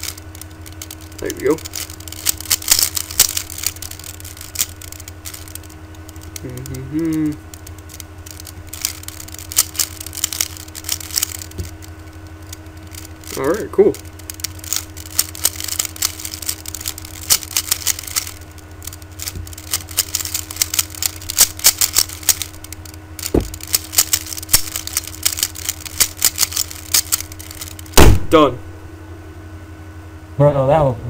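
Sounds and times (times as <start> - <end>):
puzzle cube clicking: 0.0 - 28.1
low electrical hum: 0.0 - 31.0.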